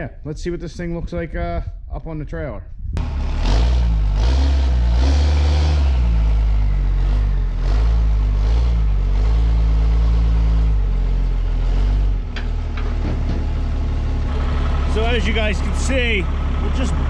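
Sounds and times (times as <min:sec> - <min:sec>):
diesel truck engine revving: 0:03.0 - 0:17.0.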